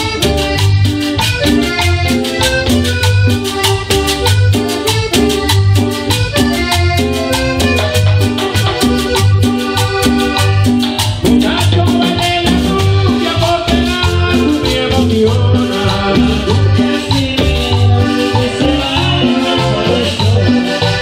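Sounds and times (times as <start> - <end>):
accordion melody: 0.0 - 21.0
live cumbia band playing: 0.0 - 21.0.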